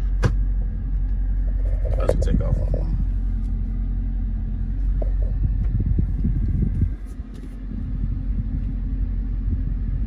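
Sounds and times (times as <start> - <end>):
car engine idling rumble: 0.0 - 10.0.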